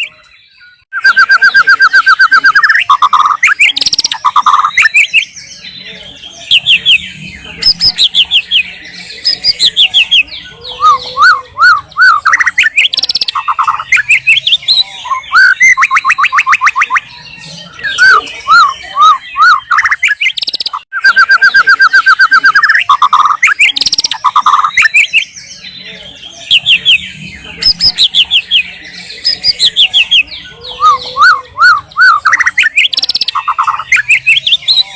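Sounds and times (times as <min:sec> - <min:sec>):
bird singing whistled song: 0:00.0 - 0:05.8, 0:06.4 - 0:25.8, 0:26.4 - 0:34.9.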